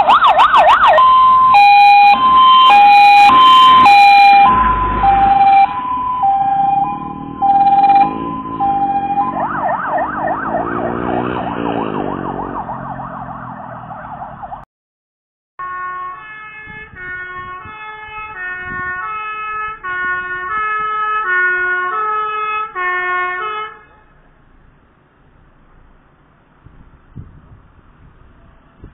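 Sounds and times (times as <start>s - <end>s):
fire engine siren: 0.0s - 14.7s, 15.6s - 24.2s.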